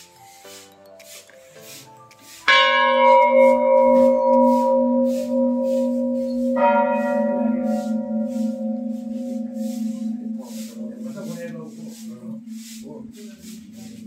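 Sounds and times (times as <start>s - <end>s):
large brass bell ringing: 2.5s - 14.0s.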